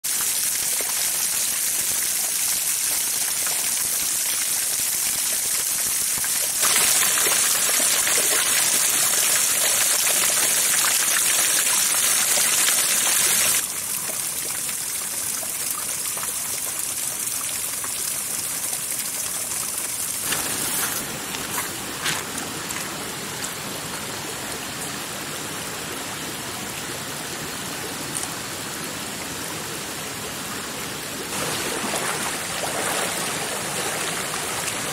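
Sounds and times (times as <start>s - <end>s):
rushing water: 0.0s - 34.9s.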